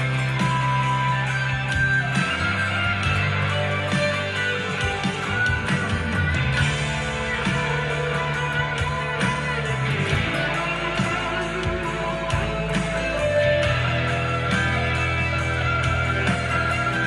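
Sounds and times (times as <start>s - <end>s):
held bass notes: 0.0s - 17.0s
rock electric guitar: 0.0s - 17.0s
steady drum beat: 0.0s - 17.0s.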